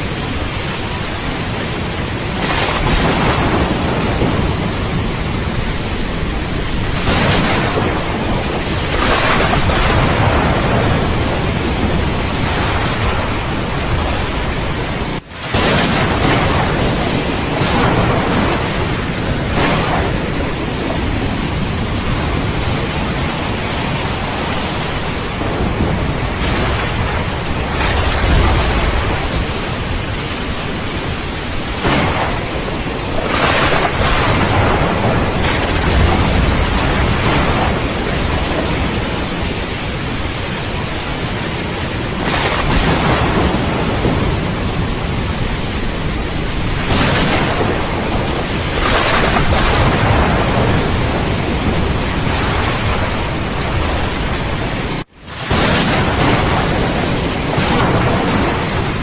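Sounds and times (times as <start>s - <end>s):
heavy rain: 0.0s - 59.0s
sharp thunderclap: 0.0s - 59.0s
thunder rumbling: 0.0s - 59.0s.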